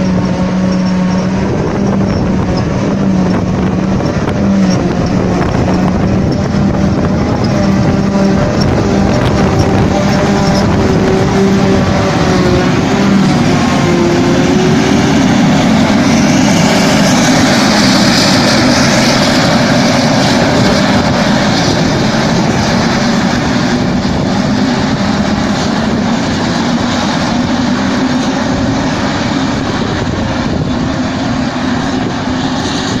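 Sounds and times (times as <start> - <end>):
machinery drone: 0.0 - 33.0.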